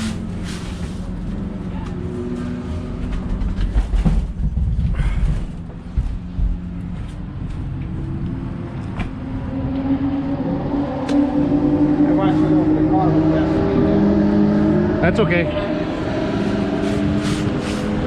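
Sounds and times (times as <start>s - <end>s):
race car engines: 0.0s - 4.6s, 5.2s - 18.0s.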